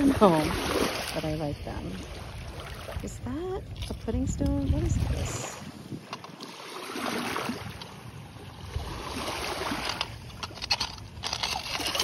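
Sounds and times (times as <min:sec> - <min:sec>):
water sloshing over pebbles: 0:00.0 - 0:12.0.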